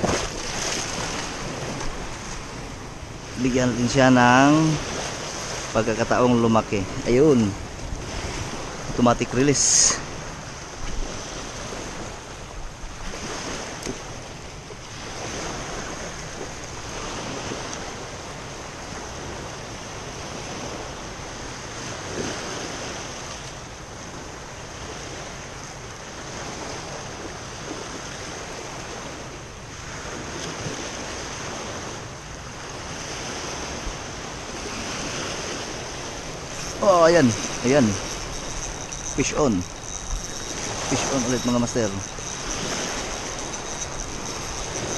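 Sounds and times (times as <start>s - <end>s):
waves washing over pebbles: 0.0s - 12.2s, 13.0s - 44.9s.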